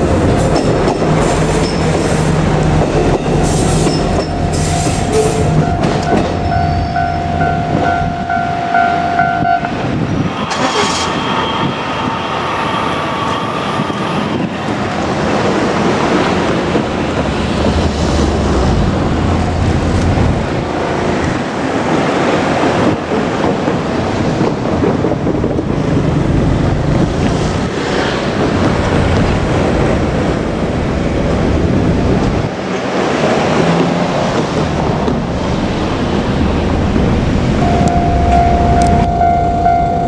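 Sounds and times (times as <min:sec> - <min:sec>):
diesel railcar rumble: 0:00.0 - 0:40.0
wind buffeting microphone: 0:00.0 - 0:40.0.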